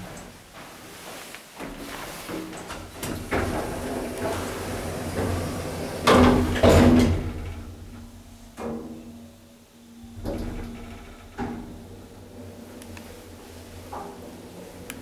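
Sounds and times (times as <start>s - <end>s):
elevator doors closing: 1.6s - 15.0s
elevator humming: 2.6s - 15.0s.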